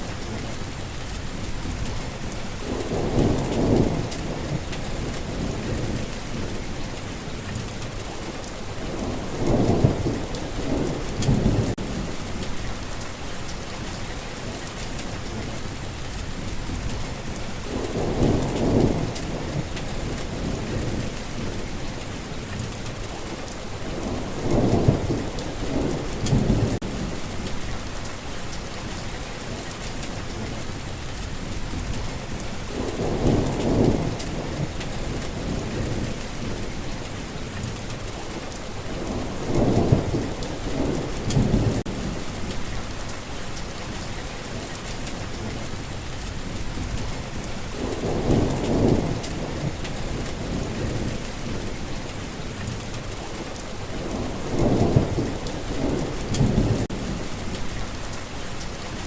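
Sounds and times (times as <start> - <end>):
steady rain falling: 0.0 - 59.0
low rumbles of thunder: 0.1 - 58.9.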